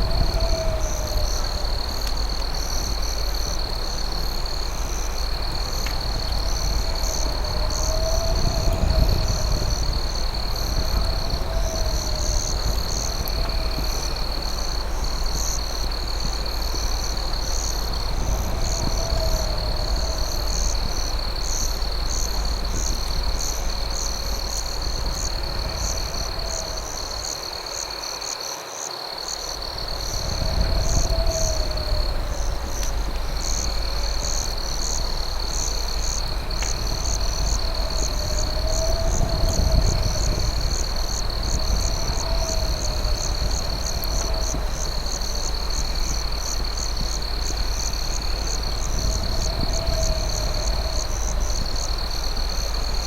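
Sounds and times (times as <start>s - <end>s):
crickets trilling: 0.0s - 53.0s
wavering low insect call: 0.0s - 53.0s.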